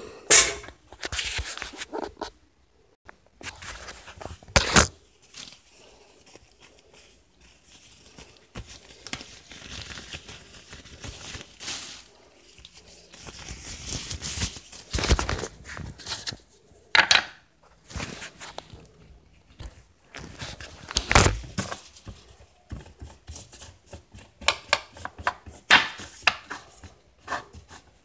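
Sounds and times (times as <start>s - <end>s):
rustling and crinkling: 0.7s - 2.4s, 3.1s - 28.0s.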